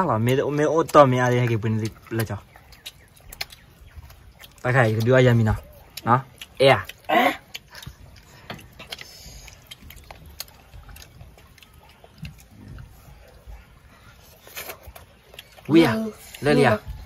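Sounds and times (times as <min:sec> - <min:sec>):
chewing fried chicken: 0:00.0 - 0:17.0.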